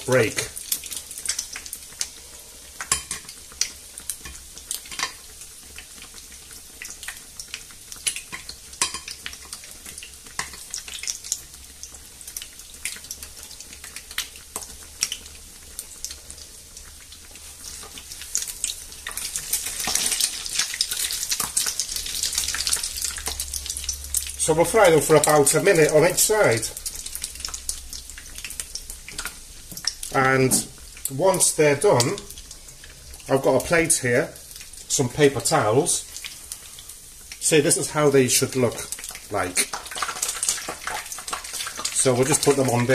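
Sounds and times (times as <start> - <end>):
bread frying in hot oil: 0.0 - 42.9.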